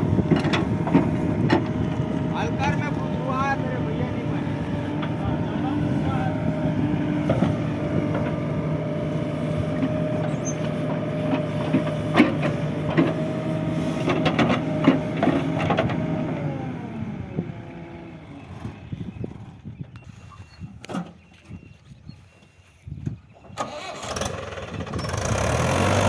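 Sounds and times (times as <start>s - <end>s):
diesel engine of heavy machinery: 0.0s - 20.5s, 23.4s - 26.0s.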